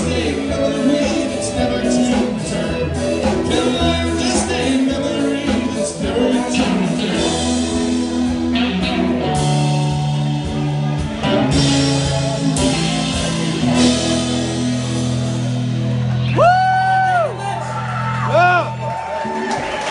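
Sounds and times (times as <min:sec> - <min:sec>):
drum kit: 0:00.0 - 0:17.3
bass: 0:00.0 - 0:19.9
electric guitar: 0:00.0 - 0:19.9.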